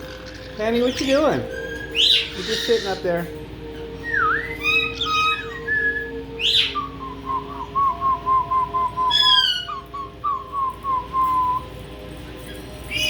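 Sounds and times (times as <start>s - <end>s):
parrot whistling: 0.0s - 11.8s.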